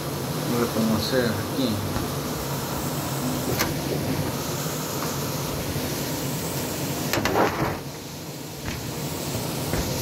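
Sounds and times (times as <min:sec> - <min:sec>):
extractor fan running: 0:00.0 - 0:10.0.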